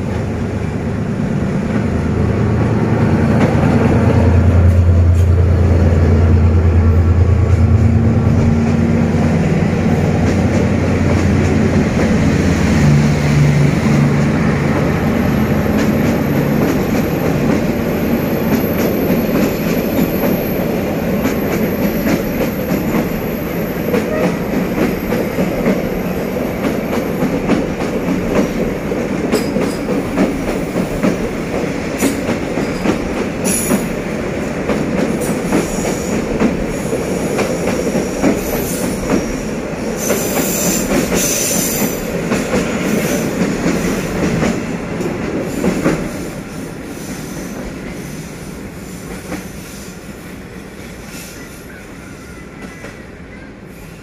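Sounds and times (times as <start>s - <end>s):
train wheels rumbling on rails: 0.0s - 54.0s
clickety-clack of rail joints: 1.4s - 50.0s, 52.1s - 53.5s.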